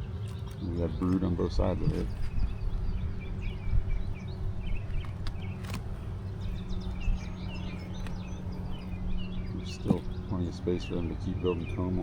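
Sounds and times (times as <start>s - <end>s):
birds chirping: 0.0s - 12.0s
honeybees buzzing: 0.0s - 12.0s.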